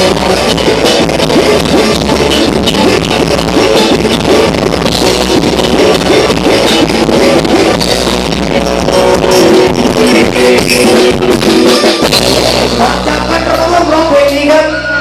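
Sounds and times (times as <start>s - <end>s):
instrumental rock band music: 0.0s - 15.0s.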